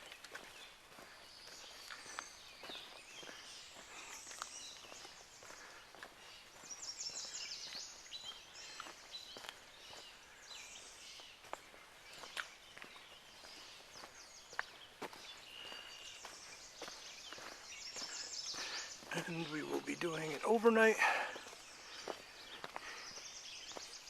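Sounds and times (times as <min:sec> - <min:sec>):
footsteps on trail: 0:00.0 - 0:24.0
songbirds singing: 0:00.0 - 0:24.0.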